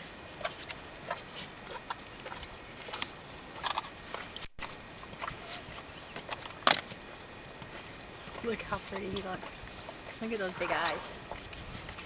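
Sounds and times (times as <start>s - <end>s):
horse licking and mouthing: 0.2s - 3.0s, 3.6s - 12.0s.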